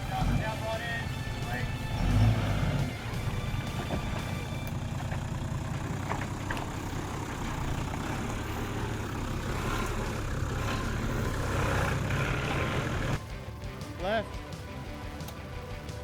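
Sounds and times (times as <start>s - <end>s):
engine running at low revs: 0.0s - 13.5s.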